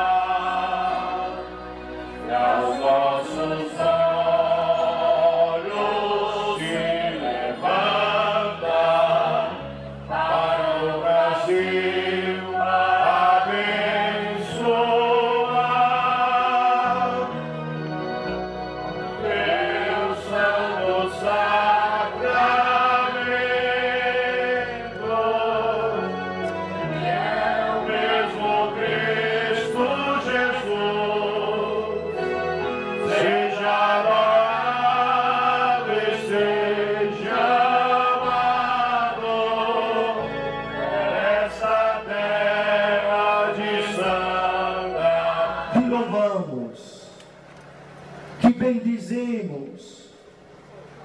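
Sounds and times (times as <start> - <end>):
choir singing a hymn: 0.0 - 46.7
musical accompaniment: 0.0 - 46.7.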